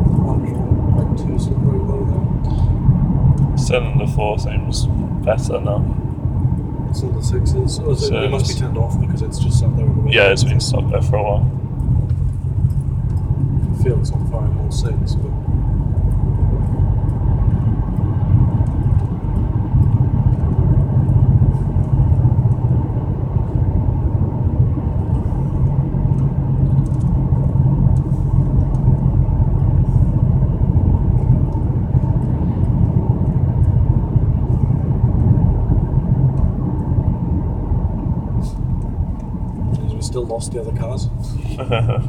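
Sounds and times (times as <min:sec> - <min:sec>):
car engine rumble: 0:00.0 - 0:42.0
road noise: 0:00.0 - 0:42.0.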